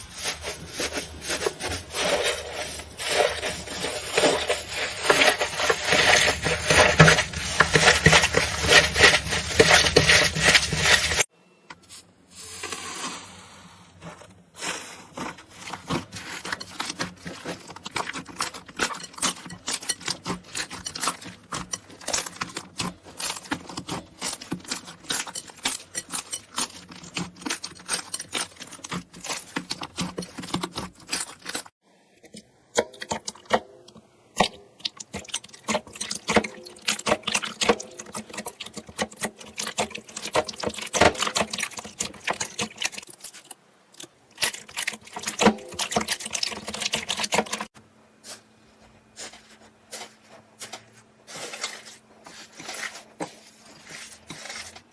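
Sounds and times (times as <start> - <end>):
close crunching and scraping: 0.0 - 54.9.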